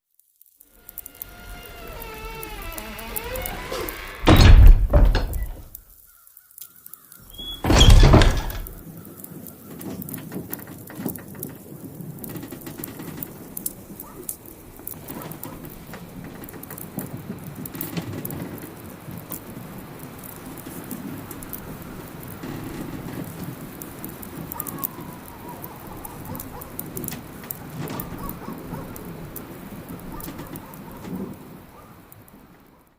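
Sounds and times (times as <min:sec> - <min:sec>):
fire crackling and popping: 0:00.2 - 0:32.9.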